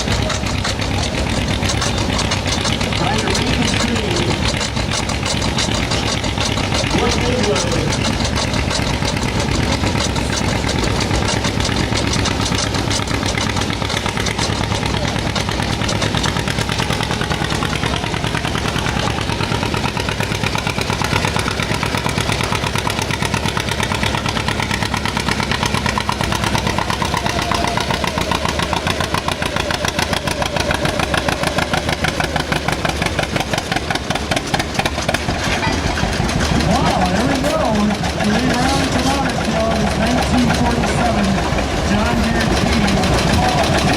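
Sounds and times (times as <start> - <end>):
tractor engine running loud: 0.0 - 43.9.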